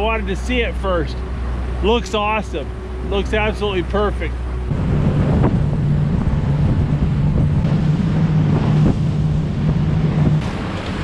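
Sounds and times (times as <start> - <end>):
outboard motor running: 0.0 - 11.0
rush of boat wake: 0.0 - 11.0
wind buffeting microphone: 0.0 - 11.0.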